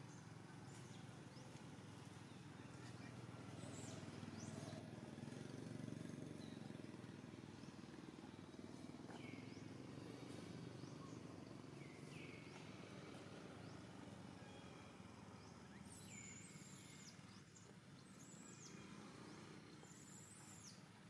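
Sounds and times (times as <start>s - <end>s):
faint outdoor background noise: 0.0s - 21.0s.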